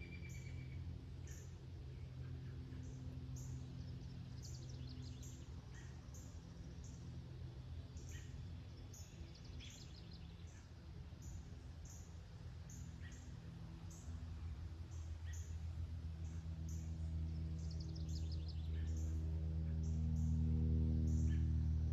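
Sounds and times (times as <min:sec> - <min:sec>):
songbirds chirping: 0:00.0 - 0:21.9.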